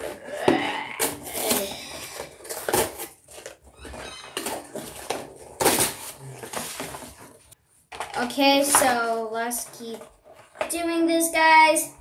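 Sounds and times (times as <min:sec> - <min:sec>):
packaging rustling: 0:01.0 - 0:10.7.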